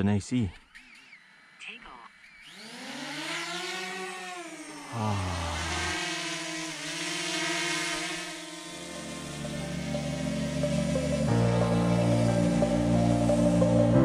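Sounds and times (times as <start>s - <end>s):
drone propellers whining: 0.6s - 14.0s.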